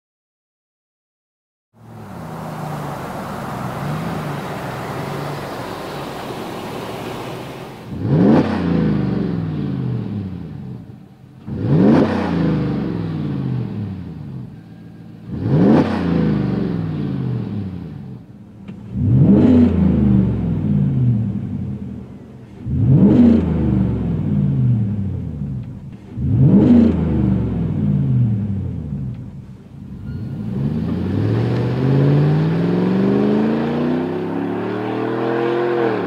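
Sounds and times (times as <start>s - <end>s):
engine revving: 1.8s - 14.6s, 15.2s - 29.4s, 30.0s - 36.0s
truck driving: 1.8s - 36.0s.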